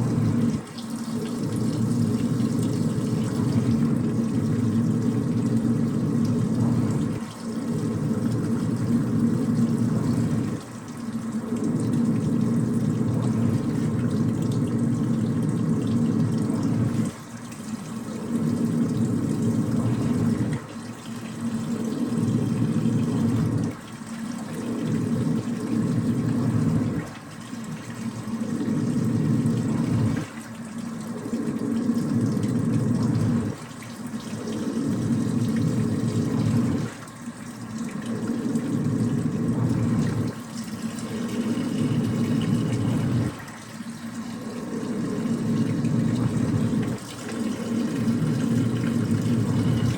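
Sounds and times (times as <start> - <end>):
washing machine churning: 0.0 - 49.9.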